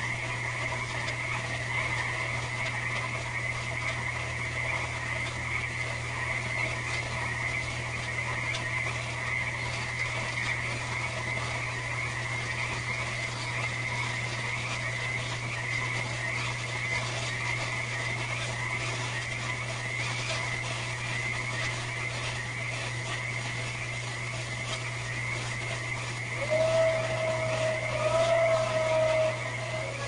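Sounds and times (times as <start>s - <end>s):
frogs calling: 0.0s - 30.0s
low croaks: 0.0s - 30.0s
steady low hum: 0.0s - 30.0s.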